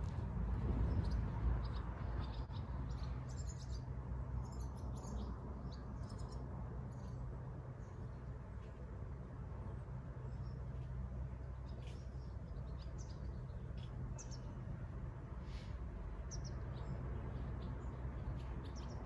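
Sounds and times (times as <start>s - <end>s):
small birds chirping: 0.0s - 8.8s, 9.7s - 19.0s
steady low rumble: 0.0s - 19.0s.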